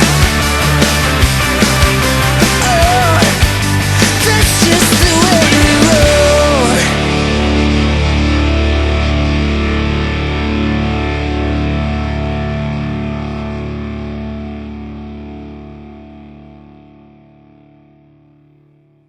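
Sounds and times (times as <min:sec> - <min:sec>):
distorted electric guitar chord: 0:00.0 - 0:19.0.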